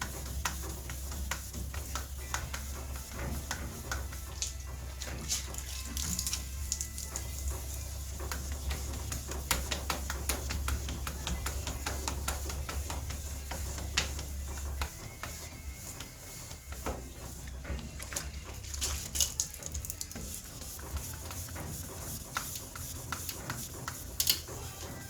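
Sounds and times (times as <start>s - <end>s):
sandpaper scratching: 0.0s - 25.0s.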